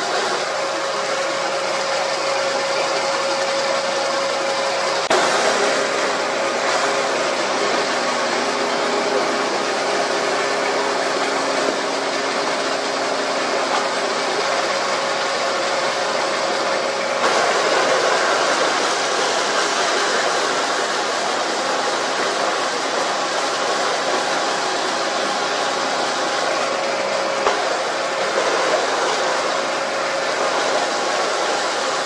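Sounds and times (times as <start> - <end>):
drilling machine motor humming: 0.0 - 32.0.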